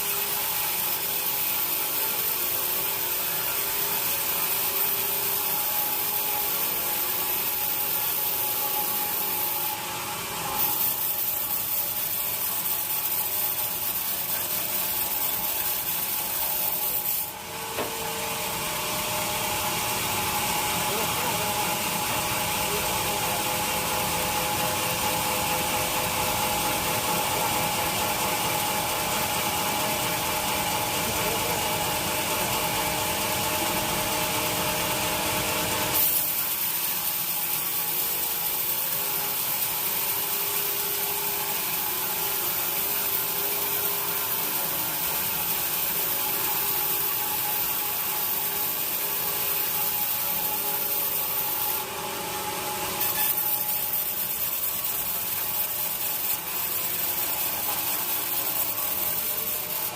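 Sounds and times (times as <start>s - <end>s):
saw cutting through wood: 0.0s - 59.9s.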